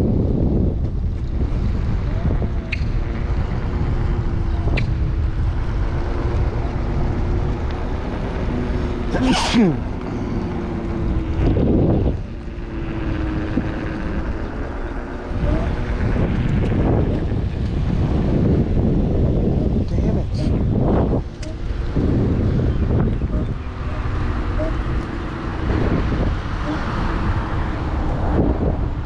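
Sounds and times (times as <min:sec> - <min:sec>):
electric motor whine: 0:00.0 - 0:19.8, 0:20.5 - 0:29.0
wind buffeting microphone: 0:00.0 - 0:29.0.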